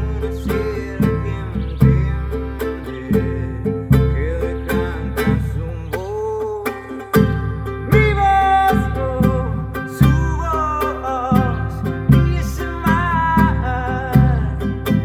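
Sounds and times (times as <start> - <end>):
bass: 0.0 - 15.0
held melodic line: 0.0 - 15.0
strummed plucked strings: 0.0 - 15.0.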